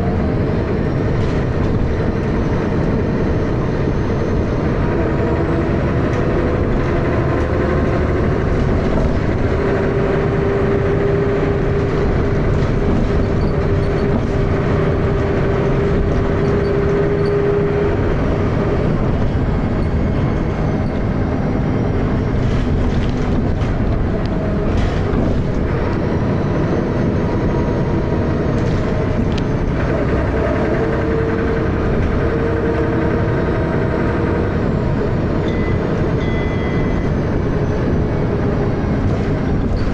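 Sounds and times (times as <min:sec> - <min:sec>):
bus engine thrashing under load: 0:00.0 - 0:39.9.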